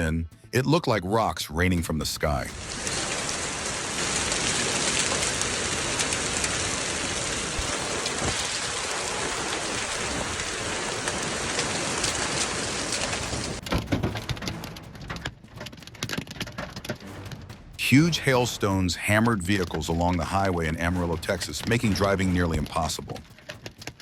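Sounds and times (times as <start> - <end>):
hail clattering on hard surfaces: 2.5 - 17.6, 19.4 - 24.0.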